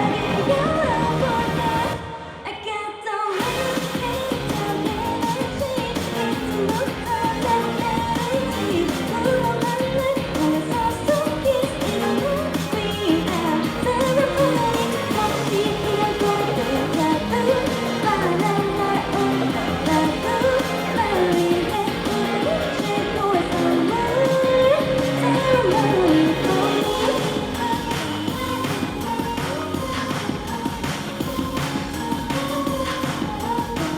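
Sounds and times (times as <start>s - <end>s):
woman singing: 0.0s - 33.9s
pop-rock band playing: 3.4s - 33.9s.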